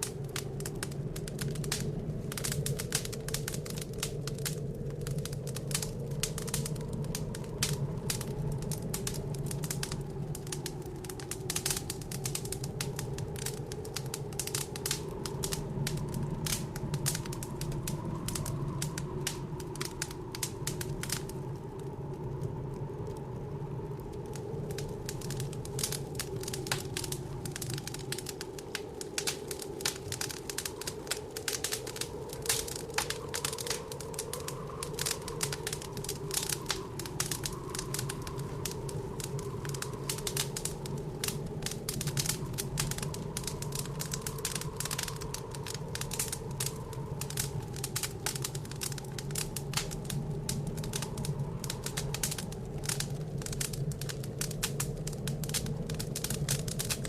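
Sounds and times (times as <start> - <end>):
howling blizzard wind: 0.0 - 57.0
wood fire crackling: 0.0 - 57.0.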